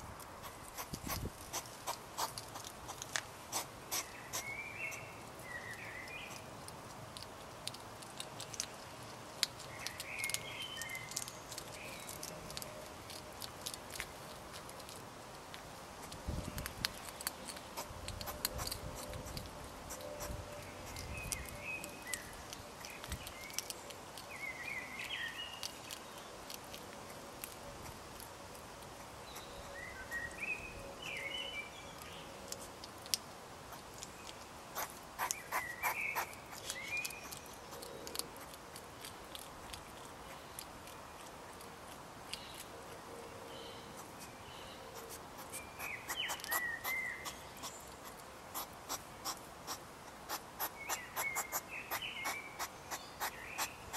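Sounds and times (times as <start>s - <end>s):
hedgehog crunching food: 0.0s - 53.9s.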